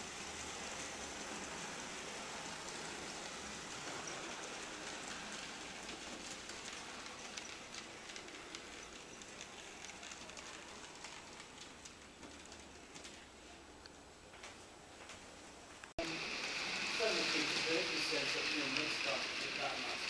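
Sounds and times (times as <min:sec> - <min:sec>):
model train wheels clicking on rails: 0:00.0 - 0:13.3, 0:16.0 - 0:20.0.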